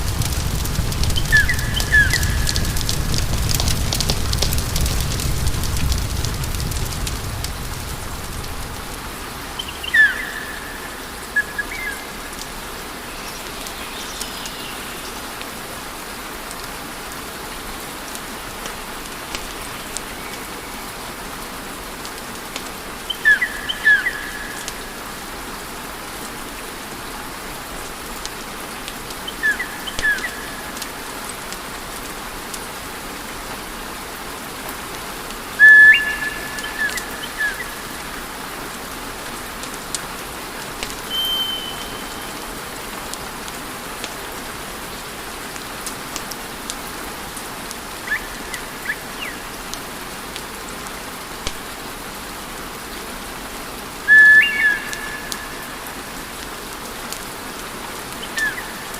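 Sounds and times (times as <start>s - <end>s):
wood fire hissing and crackling: 0.0s - 58.9s.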